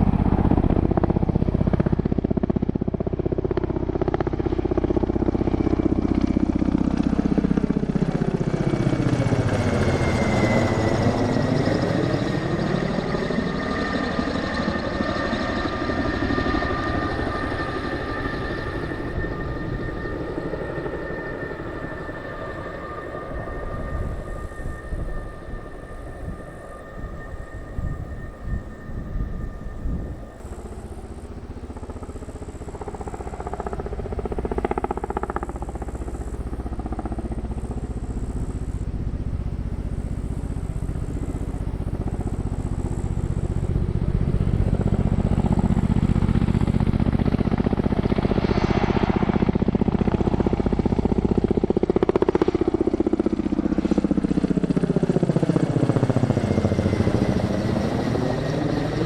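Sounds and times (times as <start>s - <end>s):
helicopter flying by: 0.0s - 59.0s.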